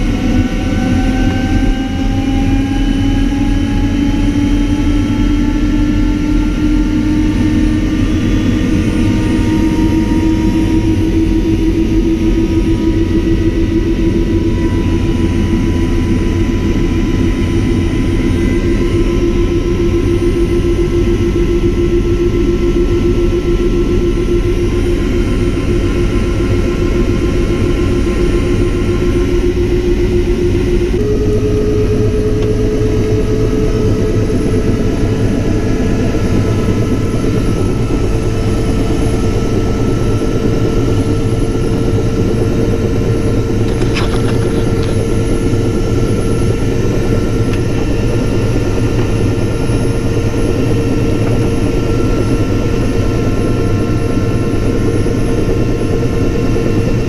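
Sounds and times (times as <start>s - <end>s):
helicopter turbine whine and rotor: 0.0s - 57.0s.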